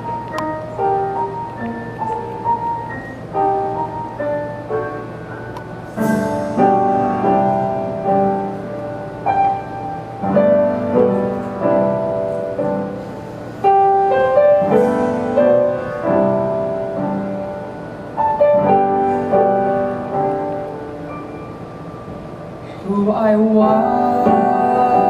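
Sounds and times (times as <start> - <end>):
piano chords and melody: 0.0 - 25.0.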